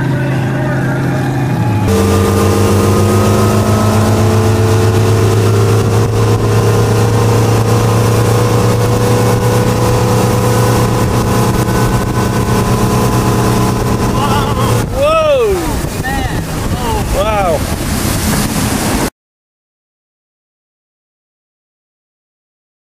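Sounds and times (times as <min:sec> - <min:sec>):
motorboat engine running: 0:00.0 - 0:19.1
rushing water: 0:00.0 - 0:19.1.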